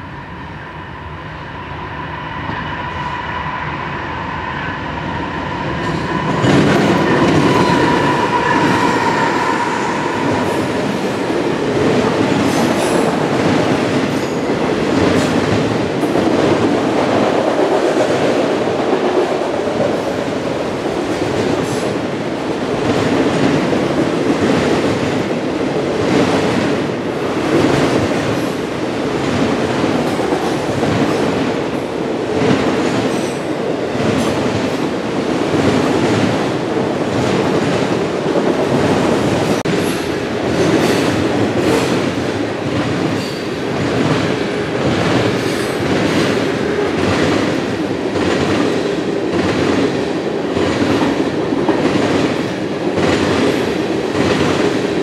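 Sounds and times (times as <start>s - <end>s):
freight train whine: 0.0s - 55.0s.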